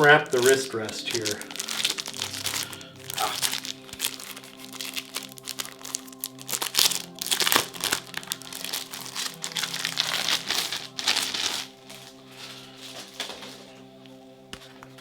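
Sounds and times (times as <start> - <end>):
background music: 0.0 - 15.0
packaging wrap crinkling: 0.0 - 15.0.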